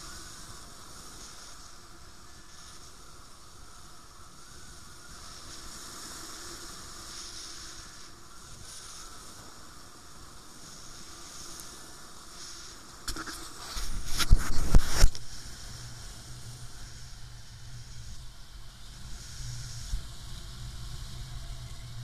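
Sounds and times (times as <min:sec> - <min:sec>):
air rushing over microphone: 0:00.0 - 0:22.0.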